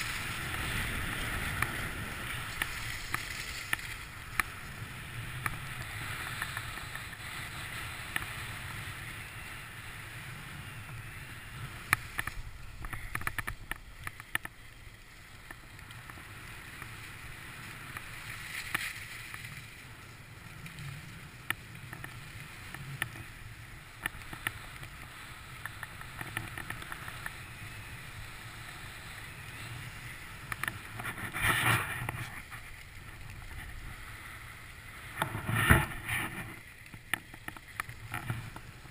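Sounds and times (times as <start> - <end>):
ski edges clicking and scraping: 0.0 - 9.6, 10.9 - 38.9
skis hissing over snow: 0.0 - 13.2, 13.8 - 38.9.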